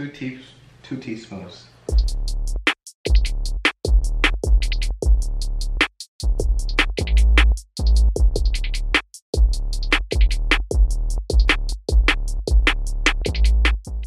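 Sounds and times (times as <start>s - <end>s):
drum machine hi-hat ticks: 1.9s - 14.0s.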